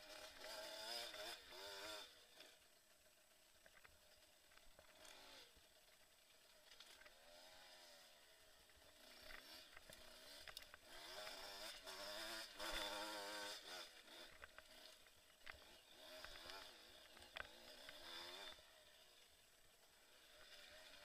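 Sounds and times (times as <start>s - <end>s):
faint motorcycle engine revving: 0.0s - 21.0s.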